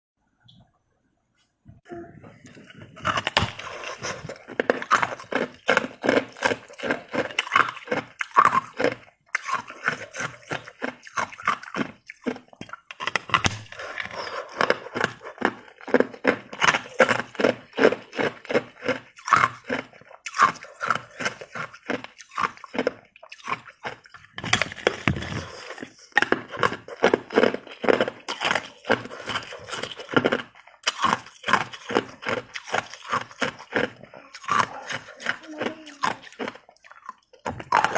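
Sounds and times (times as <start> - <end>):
ice being chewed: 2.5 - 37.9.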